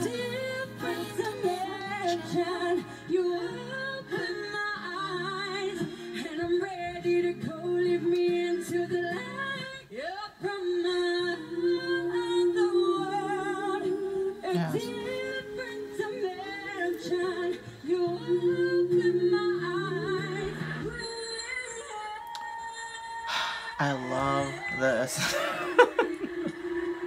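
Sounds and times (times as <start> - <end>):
women singing pop live: 0.0 - 27.0.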